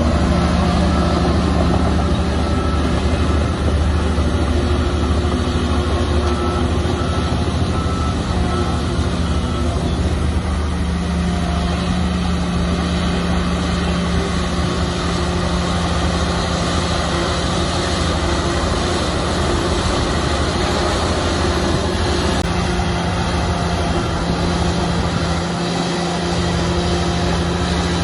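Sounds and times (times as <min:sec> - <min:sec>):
bulldozer diesel engine droning: 0:00.0 - 0:28.0.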